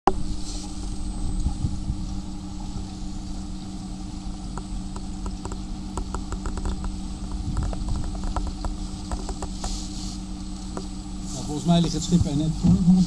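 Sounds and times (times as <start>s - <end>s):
electric boat motor humming: 0.1s - 13.0s
water lapping at hull: 0.2s - 13.0s.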